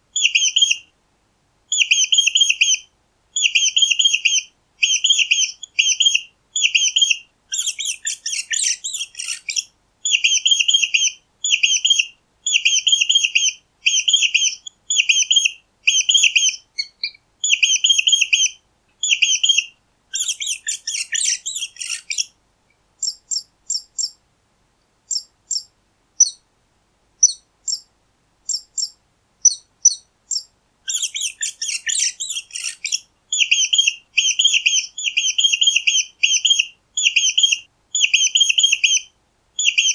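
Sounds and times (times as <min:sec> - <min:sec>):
mice squeaking: 0:03.4 - 0:22.3, 0:23.0 - 0:24.2, 0:25.1 - 0:26.4, 0:27.2 - 0:27.9, 0:28.5 - 0:39.0.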